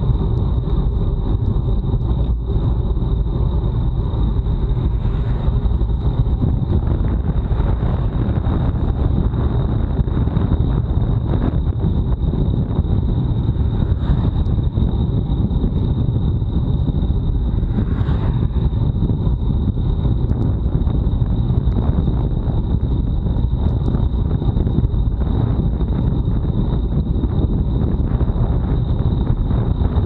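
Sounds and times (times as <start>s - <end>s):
thin high whine: 0.0s - 30.0s
wind buffeting microphone: 0.0s - 30.0s.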